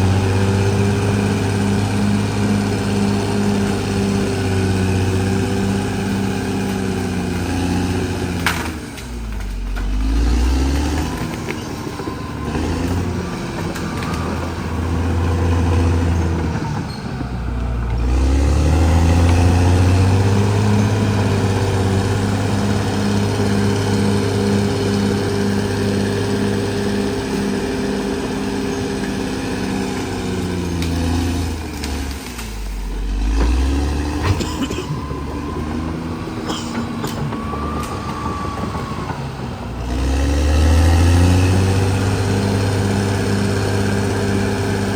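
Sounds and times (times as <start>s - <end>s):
bulldozer diesel engine working: 0.0s - 44.9s.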